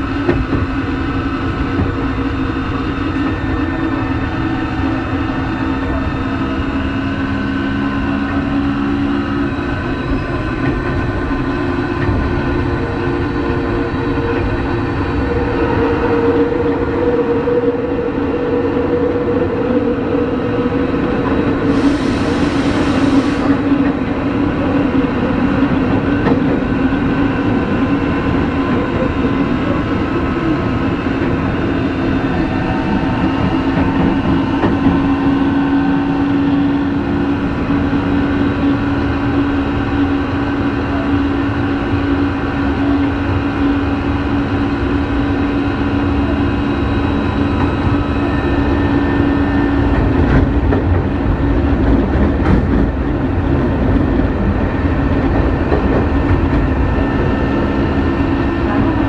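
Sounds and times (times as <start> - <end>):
subway train motor whine: 0.0 - 59.0
wheel and rail noise: 0.0 - 59.0.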